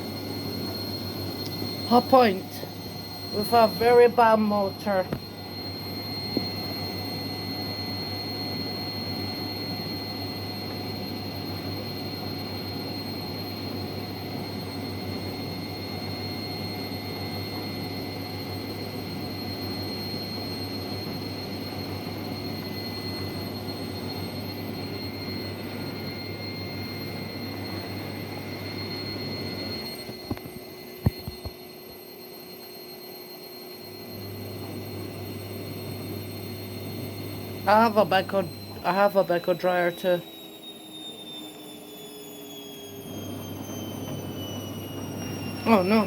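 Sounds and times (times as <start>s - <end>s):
high-pitched motor whine: 0.0s - 46.0s
washing machine spinning: 0.0s - 46.0s.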